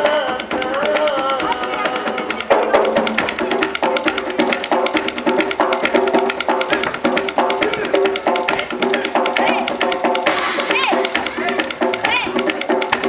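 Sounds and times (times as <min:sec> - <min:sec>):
fast percussion clicks: 0:00.0 - 0:13.0
repeating pitched notes: 0:00.0 - 0:13.0.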